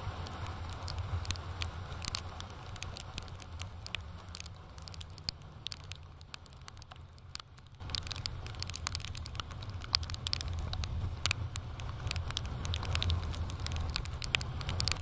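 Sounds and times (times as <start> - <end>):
motorcycle droning at speed: 0.0 - 15.0
raindrops ticking on camera: 0.0 - 15.0.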